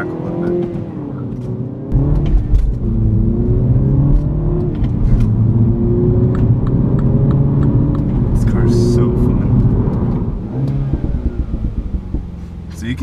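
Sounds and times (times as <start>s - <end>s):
car engine drone: 0.0s - 13.0s
exhaust pops and crackles: 0.4s - 3.2s, 4.0s - 13.0s.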